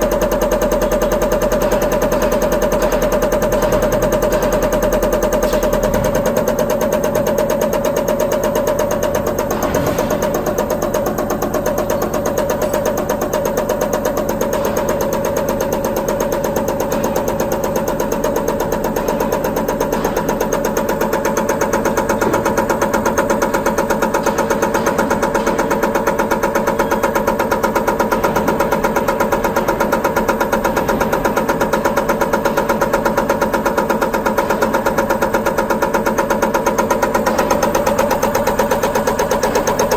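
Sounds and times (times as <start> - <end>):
machine drone with rapid pulsing: 0.0 - 39.9.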